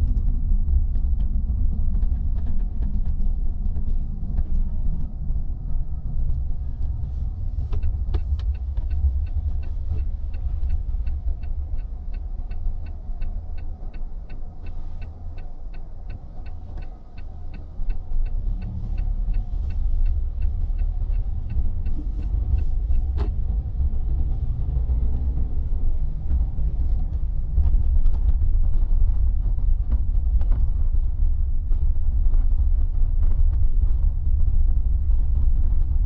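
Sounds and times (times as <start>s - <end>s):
car cabin road rumble: 0.0s - 36.0s
turn signal ticking: 0.8s - 36.0s.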